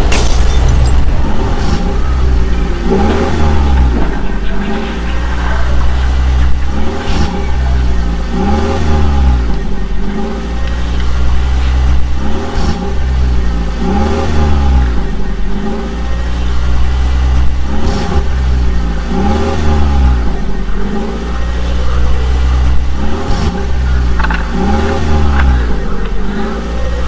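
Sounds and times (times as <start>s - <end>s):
vehicle engine revving: 0.0s - 27.0s.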